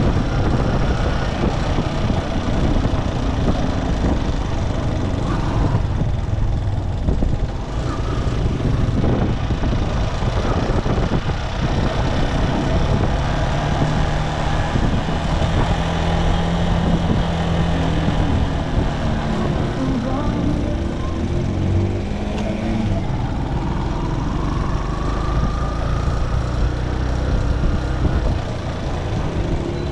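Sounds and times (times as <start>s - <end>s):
motorcycle engine running: 0.0s - 29.9s
road and wind noise: 0.0s - 29.9s.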